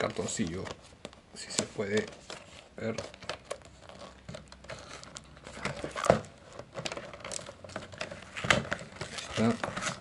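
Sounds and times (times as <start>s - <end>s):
plastic packaging crinkling: 1.4s - 10.0s.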